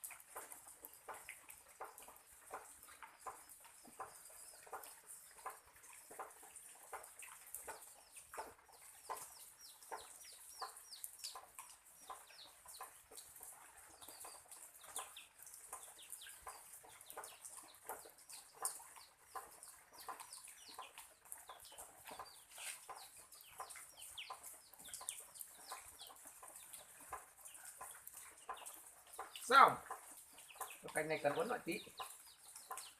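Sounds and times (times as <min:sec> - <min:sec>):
chickens clucking: 0:00.3 - 0:32.9
chicks peeping: 0:01.8 - 0:32.9.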